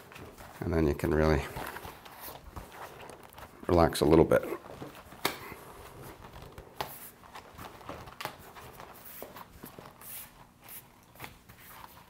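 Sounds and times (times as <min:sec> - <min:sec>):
plastic rustling: 0:00.0 - 0:12.0.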